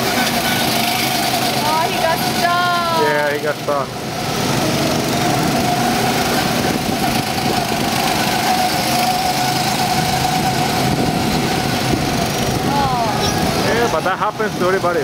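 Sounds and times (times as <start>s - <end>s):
go-kart engines running: 0.0s - 15.0s
steady whine: 0.0s - 15.0s.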